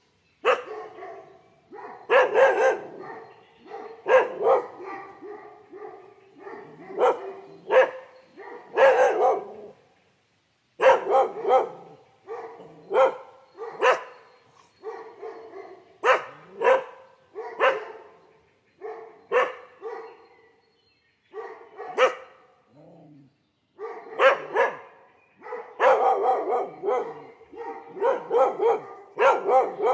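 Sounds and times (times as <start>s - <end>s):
dog barking: 0.4s - 9.8s, 10.8s - 18.2s, 18.8s - 20.5s, 21.3s - 22.4s, 23.8s - 29.9s.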